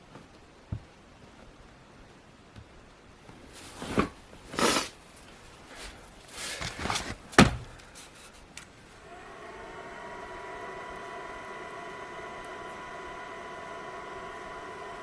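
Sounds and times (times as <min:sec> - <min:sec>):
steady electric hum: 0:00.0 - 0:15.0.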